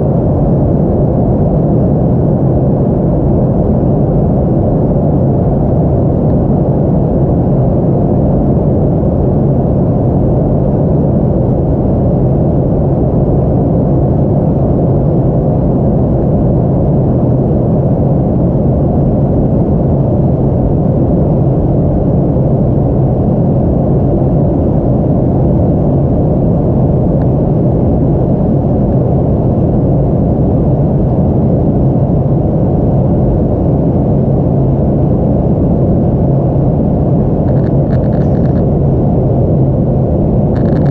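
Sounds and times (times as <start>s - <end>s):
aircraft cabin engine roar: 0.0s - 40.9s.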